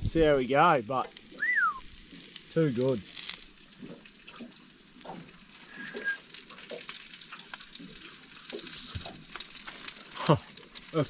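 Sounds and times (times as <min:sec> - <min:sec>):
squid frying with crackles: 0:00.0 - 0:11.0.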